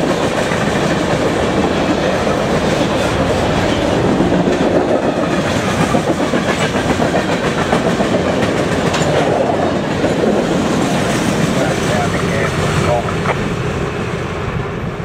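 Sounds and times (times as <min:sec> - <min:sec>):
freight train wheels clacking on rails: 0:00.0 - 0:15.0.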